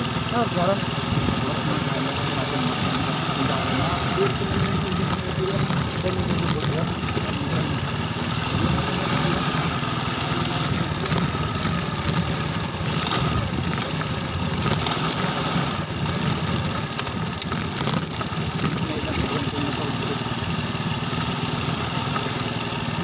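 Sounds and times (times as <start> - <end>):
motorcycle engine running: 0.0 - 23.0
road noise hiss: 0.0 - 23.0.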